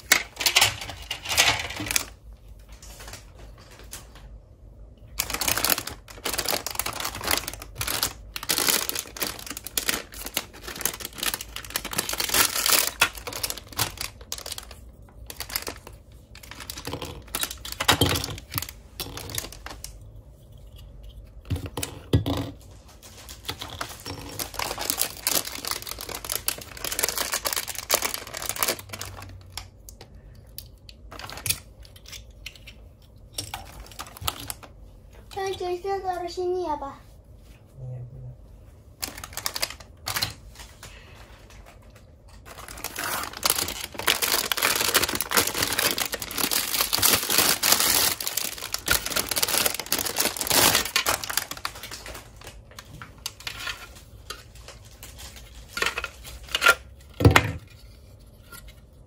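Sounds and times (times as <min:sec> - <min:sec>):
plastic bags crinkling: 0:00.0 - 0:04.4, 0:05.0 - 0:20.0, 0:21.3 - 0:30.1, 0:30.8 - 0:31.9, 0:33.3 - 0:34.8, 0:38.9 - 0:57.6.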